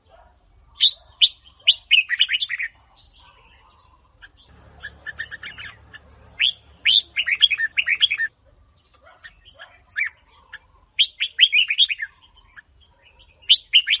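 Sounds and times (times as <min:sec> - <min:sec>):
bulbul singing: 0:00.5 - 0:14.0.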